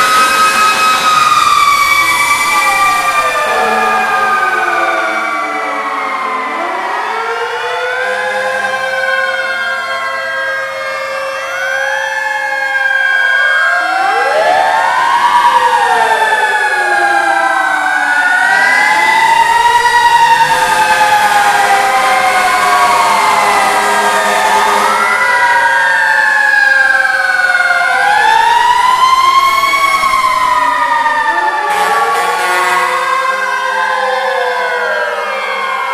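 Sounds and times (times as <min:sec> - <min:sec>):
deep siren sweeping up: 0:00.0 - 0:35.9
fire truck sirens wailing: 0:00.0 - 0:35.9.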